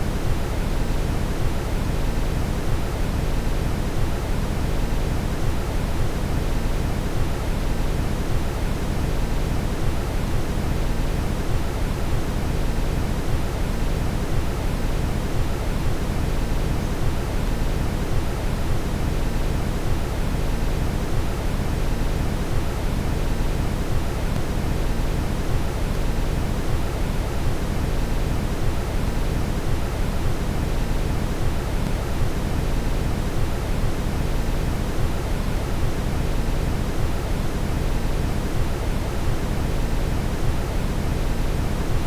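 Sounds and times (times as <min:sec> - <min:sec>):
brown noise hiss: 0:00.0 - 0:42.0.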